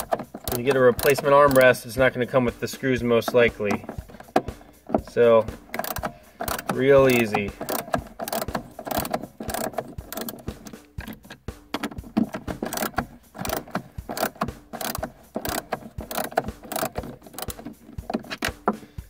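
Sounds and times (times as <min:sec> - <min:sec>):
screwdriver ratchet clicking: 0:00.0 - 0:01.8, 0:03.3 - 0:18.8.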